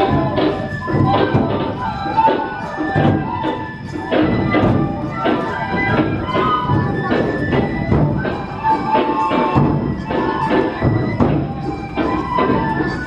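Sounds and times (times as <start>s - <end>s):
bamboo flute melody: 0.0s - 13.0s
large drum beating: 0.0s - 13.0s.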